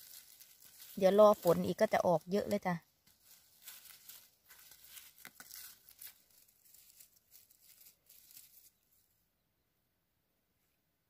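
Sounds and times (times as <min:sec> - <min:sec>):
hands rustling dry needles and leaves: 0:00.0 - 0:09.2.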